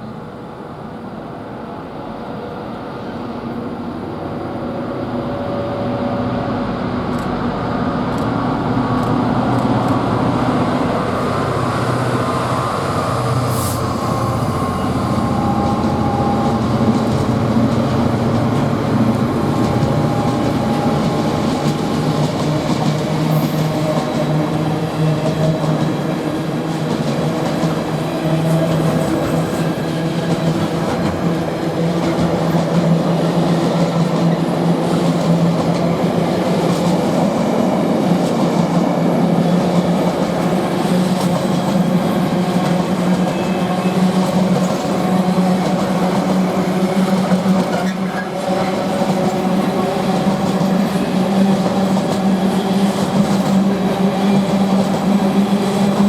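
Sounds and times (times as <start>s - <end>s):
freight train wheels rolling on rail: 0.0s - 56.0s.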